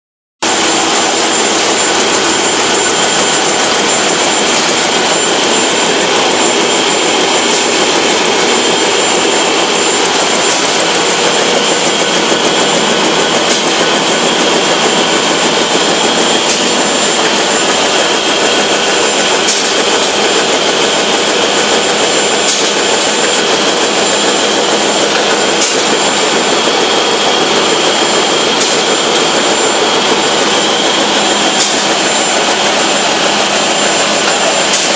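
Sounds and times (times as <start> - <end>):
high machine whine: 0.4 - 34.9
machine air rush and clatter: 0.4 - 34.9.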